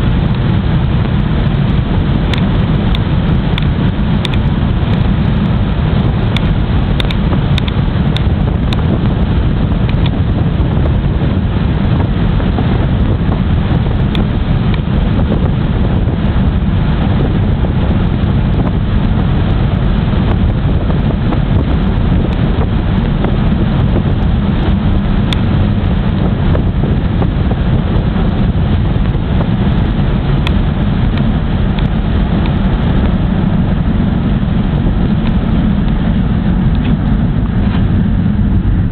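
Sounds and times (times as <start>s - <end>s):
low exhaust drone: 0.0s - 38.9s
wind buffeting on microphone: 0.0s - 38.9s.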